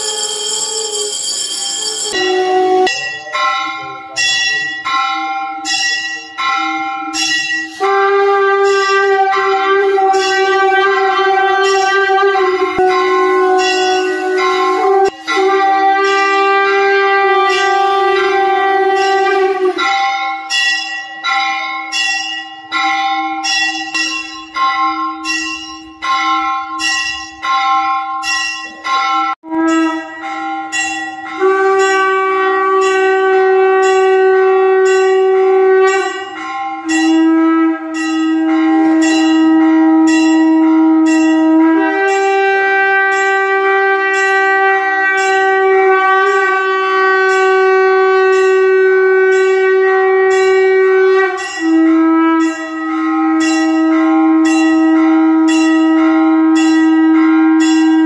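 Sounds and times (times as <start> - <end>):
wind instrument long notes: 0.0 - 4.8, 6.6 - 20.1, 29.4 - 58.0
bell struck: 0.0 - 58.0.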